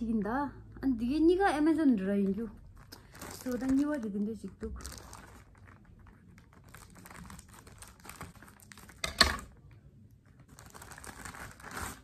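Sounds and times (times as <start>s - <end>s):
plastic crinkling and rustling: 1.9s - 12.0s.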